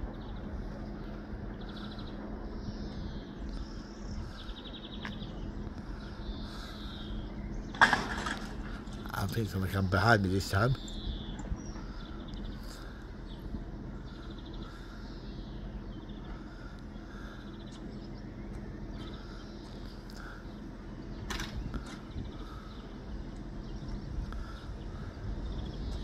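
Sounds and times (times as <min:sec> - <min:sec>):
small birds chirping: 0:00.0 - 0:26.0
steady low hum: 0:00.0 - 0:26.0.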